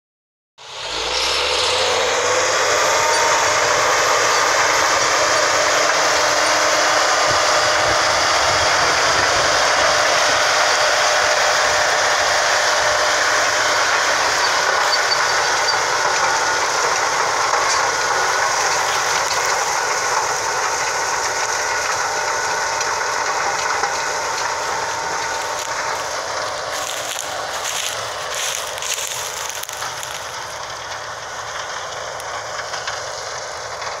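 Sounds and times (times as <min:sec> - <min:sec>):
tractor running under load: 0:00.6 - 0:34.0.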